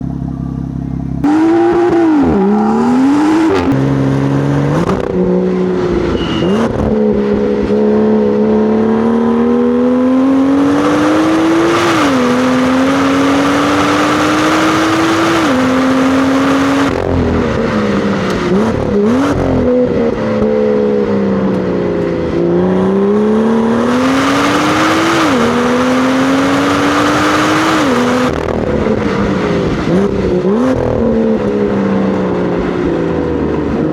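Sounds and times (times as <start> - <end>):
rev-blipped downshifts: 0.0 - 33.9
car engine accelerating through gears: 1.2 - 33.9.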